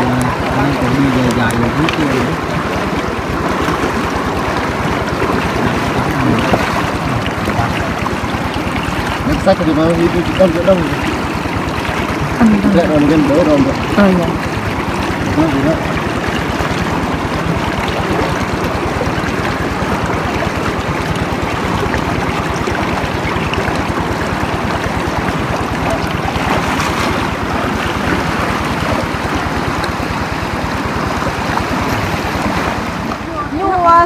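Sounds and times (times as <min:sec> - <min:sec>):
stream water flowing: 0:00.0 - 0:34.0.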